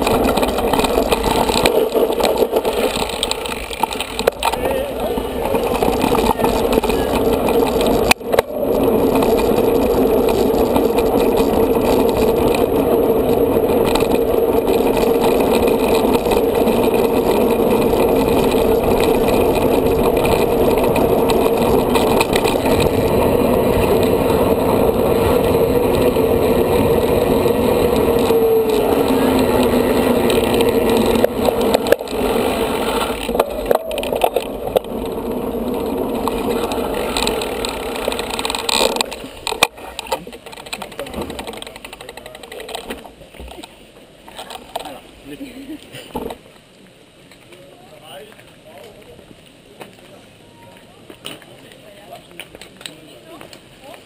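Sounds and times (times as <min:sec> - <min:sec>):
bike and mount rattling: 0:00.0 - 0:46.5
bike tyres humming on pavement: 0:00.0 - 0:54.0.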